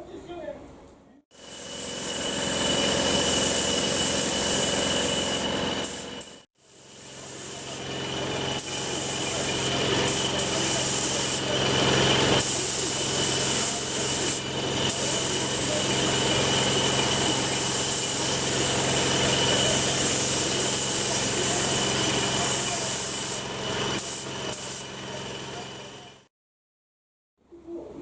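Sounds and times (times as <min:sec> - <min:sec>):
spray gun hissing: 0:01.4 - 0:24.9.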